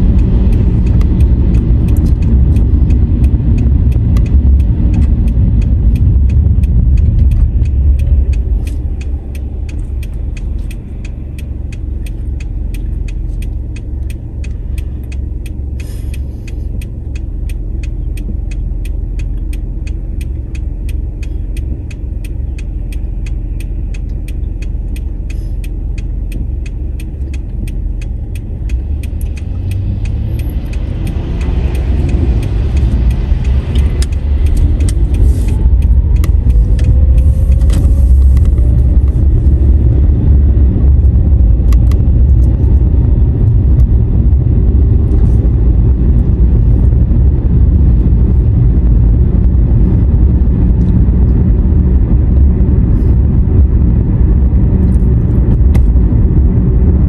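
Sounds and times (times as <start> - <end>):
car engine and road rumble: 0.0 - 57.0
turn signal ticking: 0.0 - 57.0.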